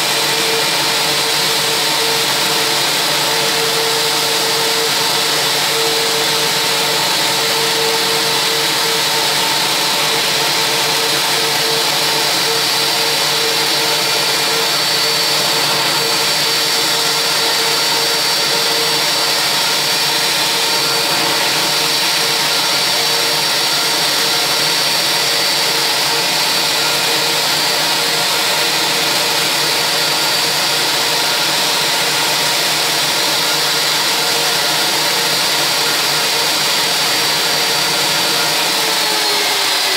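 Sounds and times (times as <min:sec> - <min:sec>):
jet turbines whining: 0:00.0 - 0:39.9.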